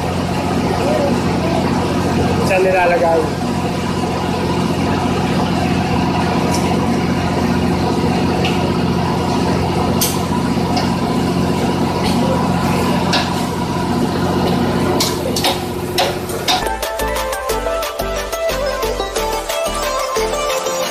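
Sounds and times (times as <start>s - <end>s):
engine droning: 0.0s - 20.9s.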